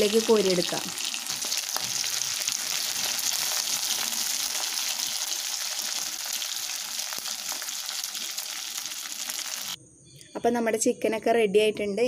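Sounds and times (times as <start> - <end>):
chicken sizzling in oil: 0.0 - 9.8.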